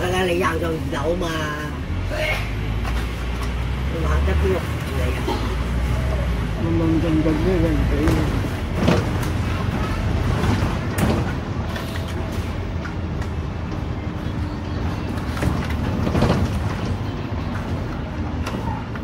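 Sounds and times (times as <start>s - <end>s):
bus diesel engine droning: 0.0s - 19.0s
road noise: 0.0s - 19.0s
bus body rattling: 2.6s - 19.0s.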